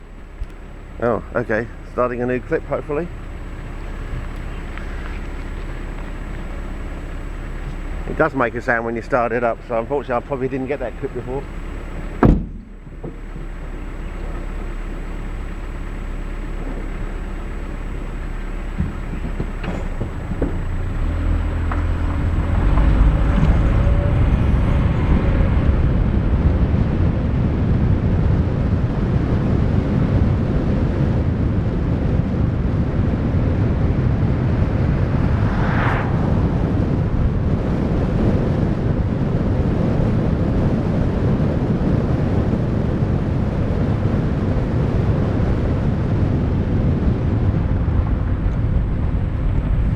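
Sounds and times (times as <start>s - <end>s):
vehicle driving rumble: 0.0s - 49.9s.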